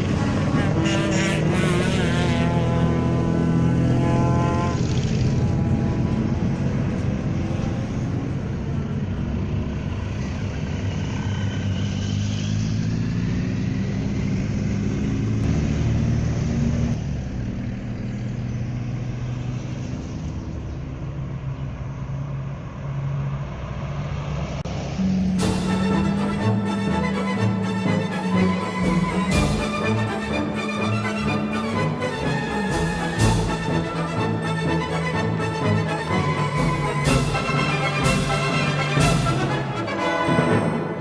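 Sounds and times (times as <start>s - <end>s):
car and motorcycle engines: 0.0s - 41.0s.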